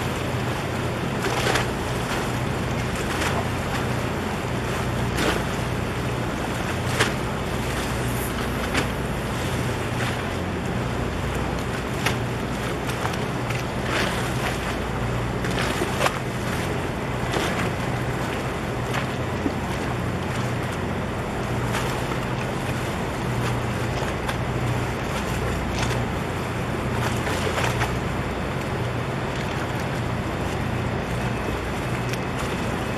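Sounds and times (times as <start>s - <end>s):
boat engine drone: 0.0s - 32.9s
water washing: 0.0s - 32.9s.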